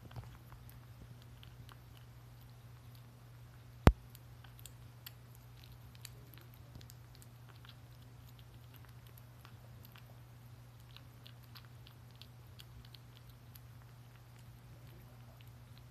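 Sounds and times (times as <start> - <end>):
kitten chewing food: 0.0 - 15.9.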